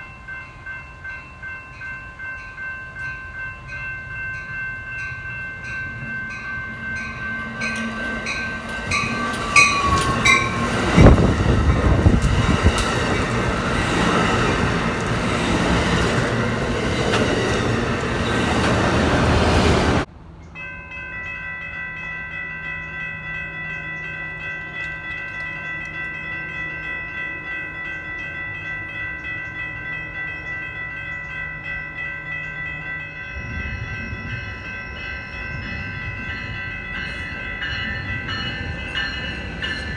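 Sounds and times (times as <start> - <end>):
electronic crossing bell: 0.0 - 13.4, 20.6 - 39.9
approaching train rumble: 0.0 - 39.9
crossing bell ringing: 0.0 - 39.9
train wheel and rail noise: 0.0 - 39.9.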